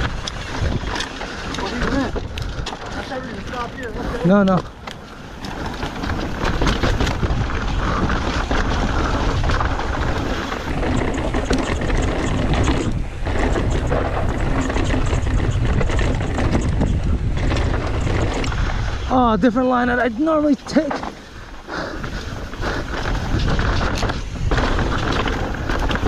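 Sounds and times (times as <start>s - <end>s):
bike clattering on rough ground: 0.0s - 26.0s
wind rumbling on microphone: 0.0s - 26.0s.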